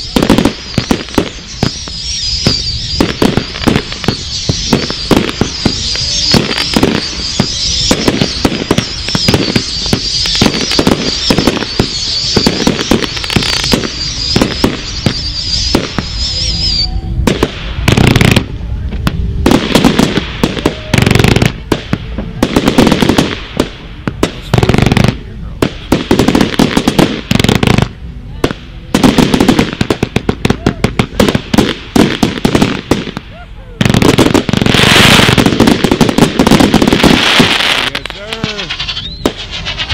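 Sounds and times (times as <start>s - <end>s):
high-pitched firework whistle: 0.0s - 23.4s, 25.8s - 39.9s
fireworks firing sharp reports: 0.0s - 39.9s
heavy firework booms: 0.0s - 39.9s.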